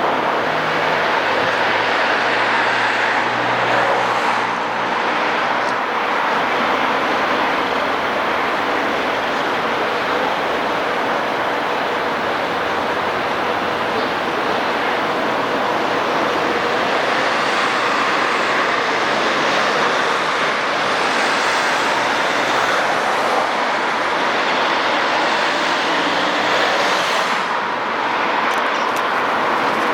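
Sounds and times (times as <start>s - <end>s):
city traffic: 0.0s - 29.9s.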